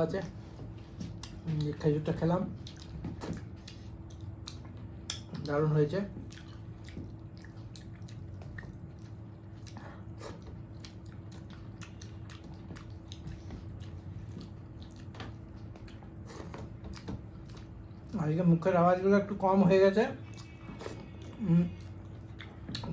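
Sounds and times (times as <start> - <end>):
low steady hum: 0.0 - 22.9
person chewing food: 0.4 - 18.2, 20.2 - 22.9.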